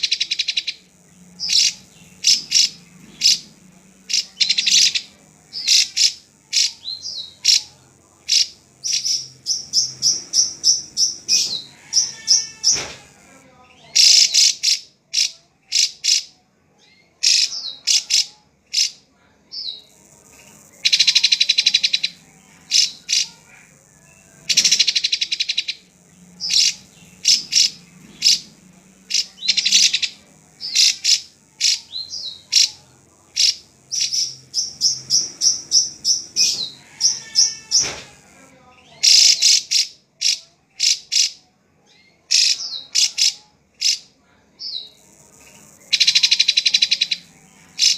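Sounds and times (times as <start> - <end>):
drongo singing: 0.0 - 16.0, 19.6 - 41.2, 44.7 - 47.9
fast buzzy trills: 0.0 - 16.4, 17.1 - 41.4, 42.3 - 47.9.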